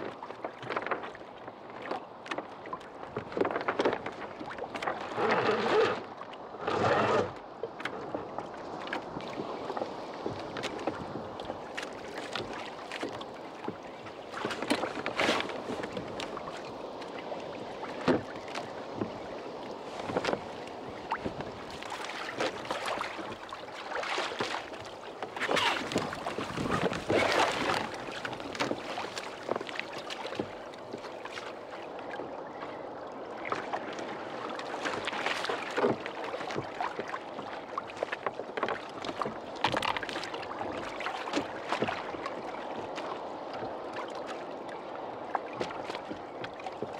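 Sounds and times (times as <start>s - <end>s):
waves slapping kayak hull: 0.0s - 46.9s
water rushing: 8.8s - 46.9s.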